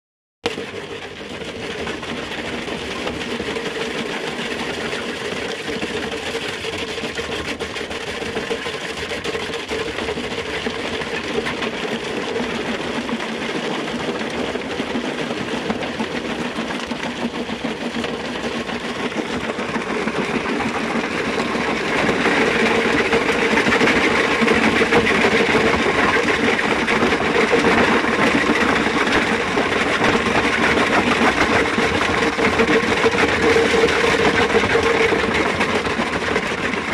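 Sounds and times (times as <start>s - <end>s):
cone crusher running: 0.4s - 36.9s
rattle of stone: 0.5s - 36.9s.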